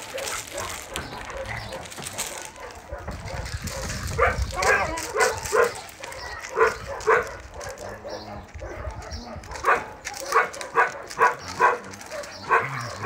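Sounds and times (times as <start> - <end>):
dogs yipping: 0.0 - 13.0.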